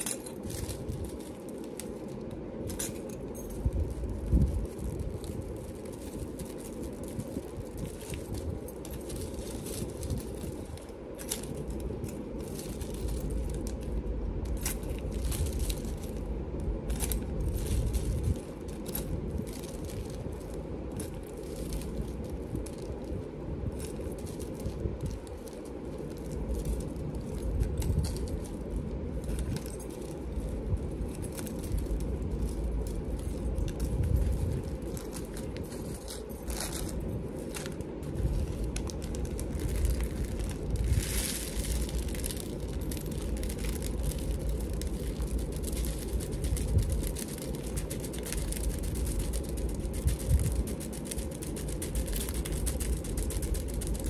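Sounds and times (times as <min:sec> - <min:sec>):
small metal pieces clinking: 0:00.0 - 0:16.2, 0:16.8 - 0:54.0
low background rumble: 0:00.0 - 0:54.0.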